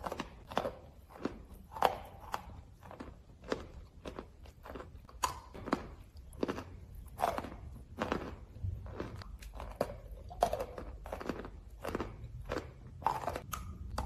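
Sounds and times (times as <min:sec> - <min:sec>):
crunching and chewing: 0:00.0 - 0:14.0.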